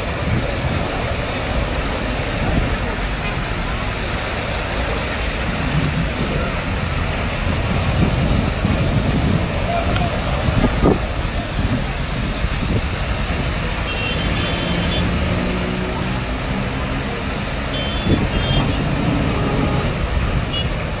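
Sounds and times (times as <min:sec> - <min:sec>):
vehicle engines driving through water: 0:00.0 - 0:21.0
water rushing from burst main: 0:00.0 - 0:21.0.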